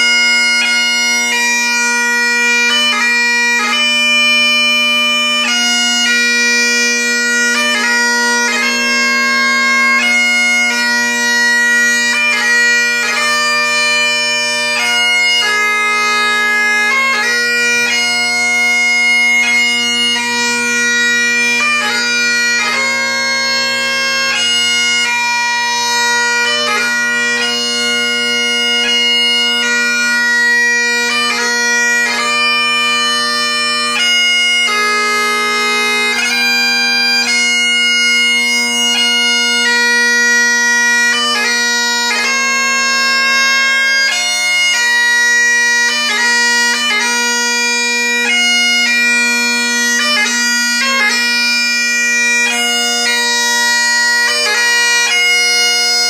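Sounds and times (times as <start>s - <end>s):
bagpipe playing slow tune: 0.0s - 56.0s.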